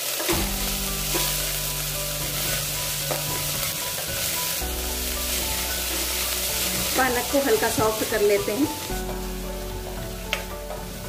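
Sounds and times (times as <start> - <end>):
spinach sizzling in hot fat: 0.0 - 11.0.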